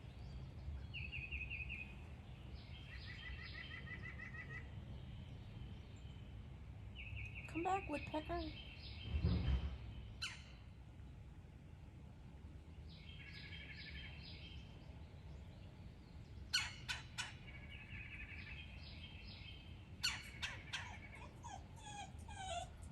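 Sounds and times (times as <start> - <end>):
birds trilling songs: 0.0 - 11.5, 12.4 - 22.9
low outdoor rumble: 0.0 - 22.9.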